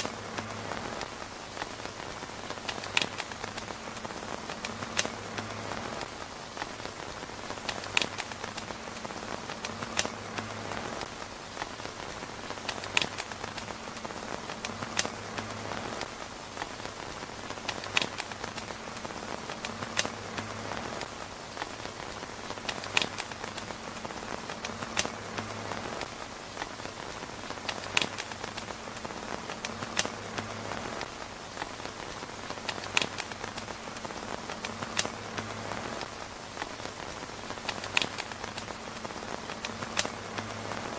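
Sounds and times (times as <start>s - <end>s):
rain on tent fabric: 0.0s - 40.9s
sharp ticks or pops: 0.0s - 40.9s.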